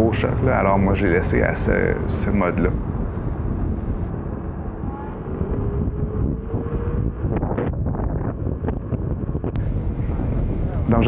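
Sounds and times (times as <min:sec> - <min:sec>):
faint rising whine: 0:00.0 - 0:11.0
road noise: 0:00.0 - 0:11.0
wind on microphone: 0:00.0 - 0:11.0.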